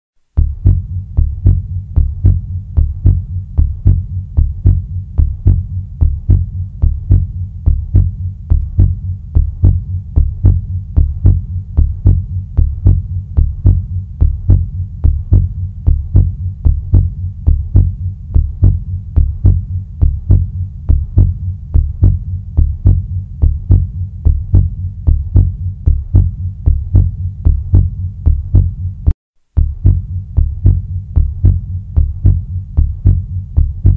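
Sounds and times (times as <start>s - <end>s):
heartbeat thumps: 0.2s - 33.9s.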